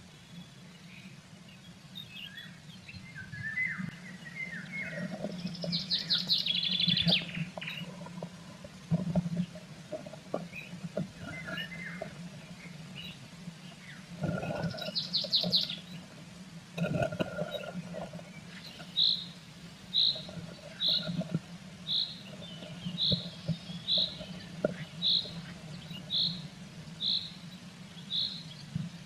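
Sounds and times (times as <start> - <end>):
songbirds chirping: 0.0 - 29.0
steady low hum: 0.0 - 29.0.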